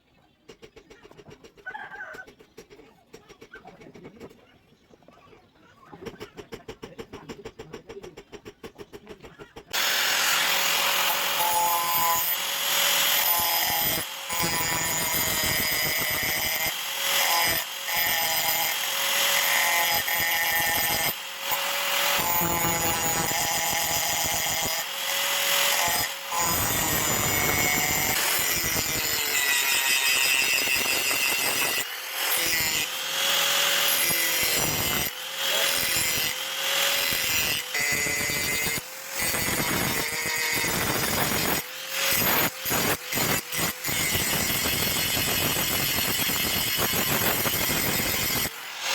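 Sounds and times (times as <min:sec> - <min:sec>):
power tool grinding steel: 0:09.7 - 0:48.9.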